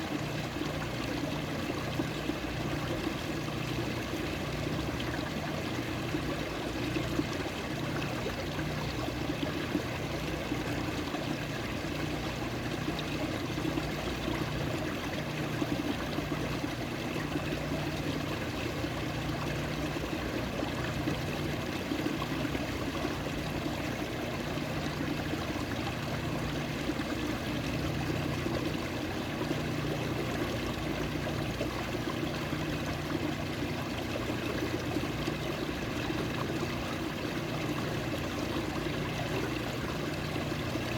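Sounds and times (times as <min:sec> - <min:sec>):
running water trickling: 0:00.0 - 0:40.9.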